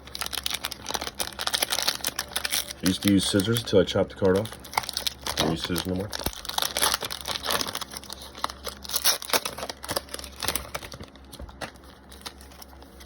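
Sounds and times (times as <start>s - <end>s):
wrapper tearing and crinkling: 0.0s - 13.0s.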